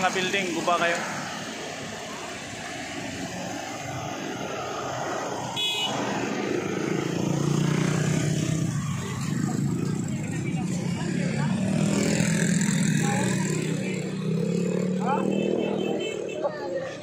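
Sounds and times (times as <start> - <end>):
motorcycles passing: 0.0 - 17.0.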